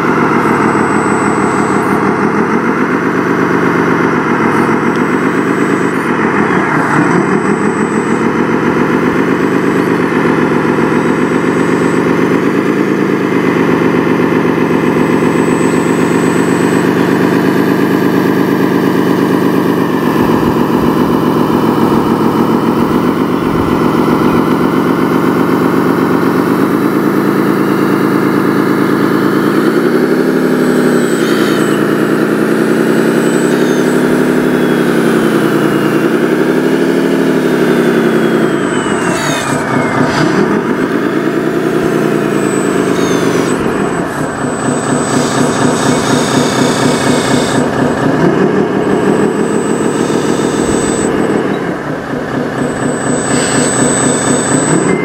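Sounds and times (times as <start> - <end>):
model bulldozer engine running: 0.0 - 55.0.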